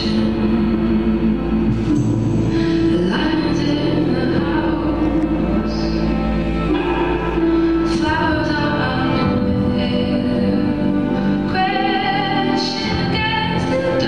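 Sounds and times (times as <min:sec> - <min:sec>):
woman singing: 0:00.0 - 0:07.1, 0:07.7 - 0:14.0
instrumental accompaniment: 0:00.0 - 0:14.0.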